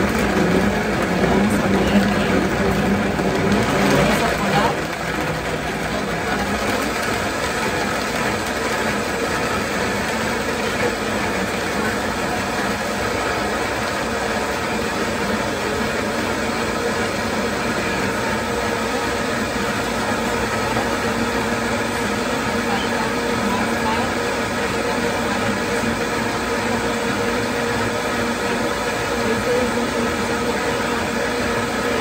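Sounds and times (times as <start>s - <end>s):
blender motor running: 0.0s - 32.0s.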